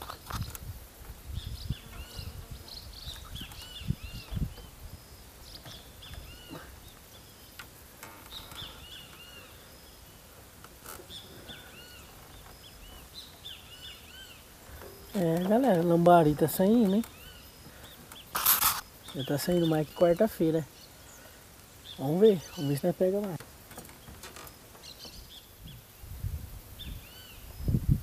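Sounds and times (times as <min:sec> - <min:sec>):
outdoor ambience: 0:00.0 - 0:28.0
wild birds chirping: 0:00.0 - 0:28.0.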